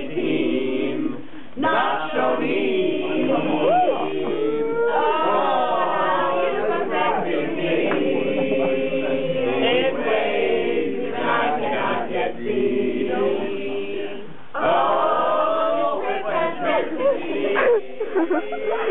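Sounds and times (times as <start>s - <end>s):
group singing long notes: 0.0s - 18.9s.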